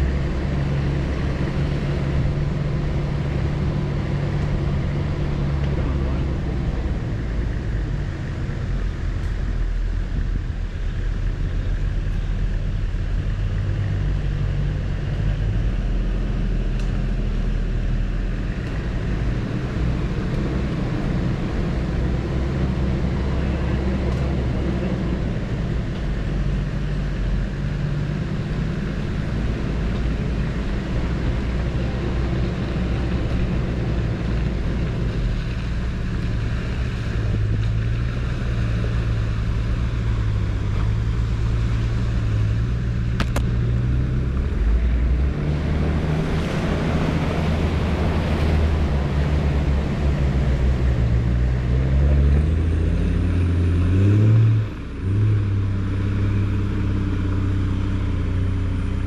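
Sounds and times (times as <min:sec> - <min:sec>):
vehicle engine at low revs: 0:00.0 - 0:59.0.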